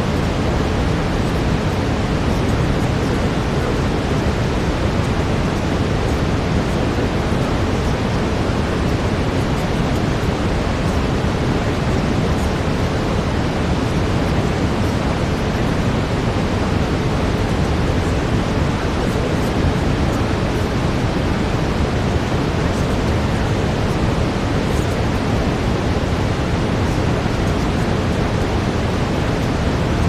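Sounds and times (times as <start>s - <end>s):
brown noise hiss: 0.0s - 30.0s.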